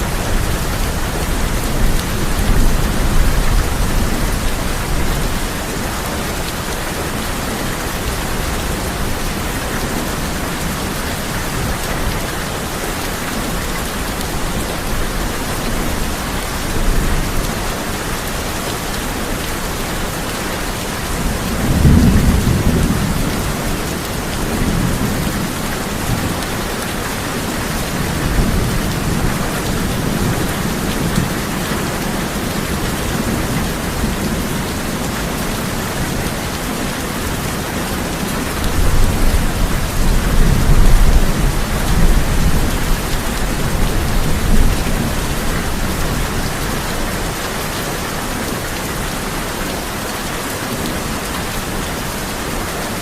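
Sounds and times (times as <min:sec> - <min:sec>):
heavy rain on a tin roof: 0:00.0 - 0:53.0.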